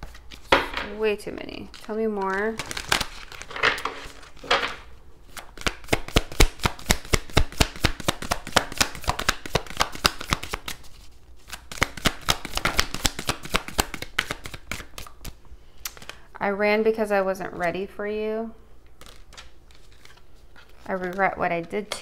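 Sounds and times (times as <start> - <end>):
cards being shuffled: 0.0 - 0.7, 1.6 - 16.2, 18.9 - 21.9.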